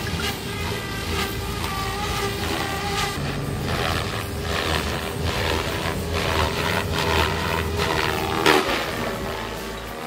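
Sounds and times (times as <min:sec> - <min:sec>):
background music: 0:00.0 - 0:10.0
model helicopter rotor whine: 0:00.0 - 0:10.0.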